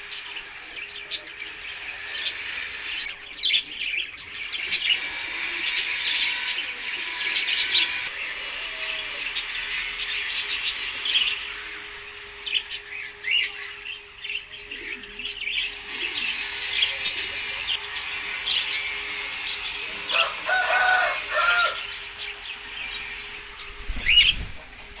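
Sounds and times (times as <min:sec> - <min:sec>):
lower held bird calls: 0:00.0 - 0:25.0
small birds chirping: 0:00.0 - 0:25.0.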